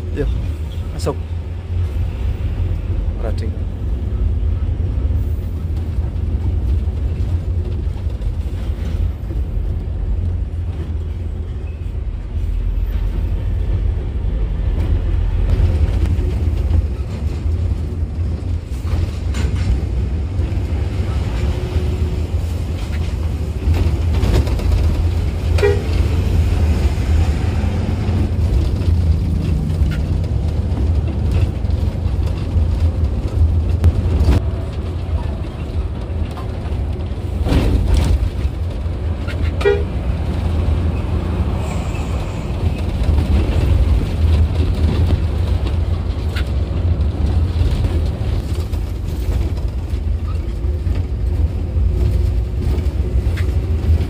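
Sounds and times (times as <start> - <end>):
bus engine and tyres rumbling: 0.0 - 54.0.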